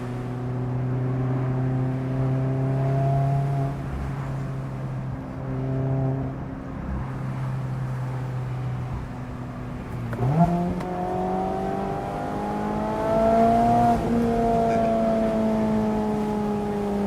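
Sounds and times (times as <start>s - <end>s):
car engine revving: 0.0s - 7.4s, 9.0s - 17.0s.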